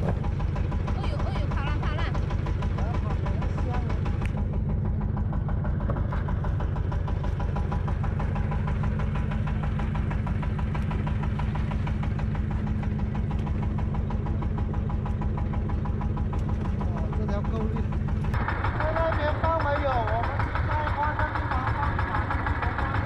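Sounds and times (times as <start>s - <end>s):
boat engine knocking steadily: 0.0s - 23.0s.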